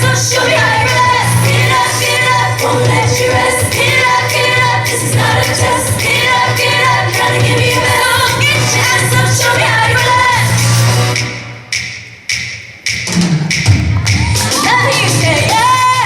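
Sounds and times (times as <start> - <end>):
pop music with singing: 0.0 - 11.4, 14.0 - 16.0.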